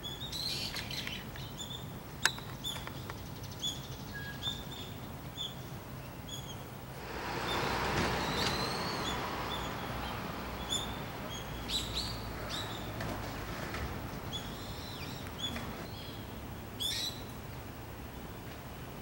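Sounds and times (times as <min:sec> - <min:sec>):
small birds chirping: 0:00.0 - 0:13.2, 0:14.0 - 0:17.3.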